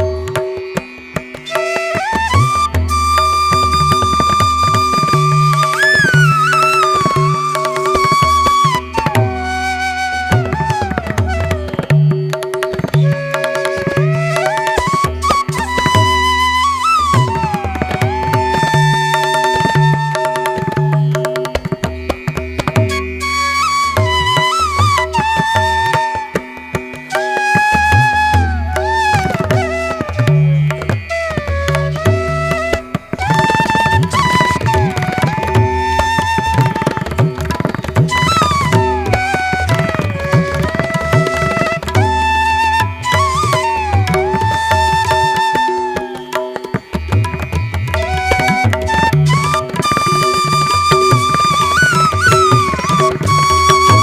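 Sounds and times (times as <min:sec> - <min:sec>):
sliding melodic line: 0:00.0 - 0:54.0
tabla rhythm: 0:00.0 - 0:54.0.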